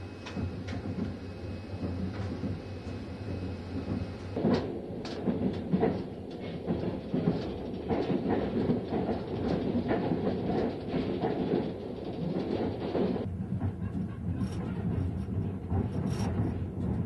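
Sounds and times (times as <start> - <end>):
train rumbling on rails: 0.0 - 17.0
wheels clicking and knocking: 3.3 - 17.0.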